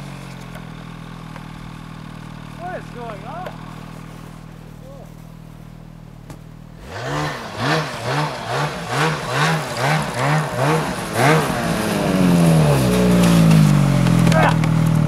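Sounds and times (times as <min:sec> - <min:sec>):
snowmobile engine idling and revving: 0:00.0 - 0:15.0.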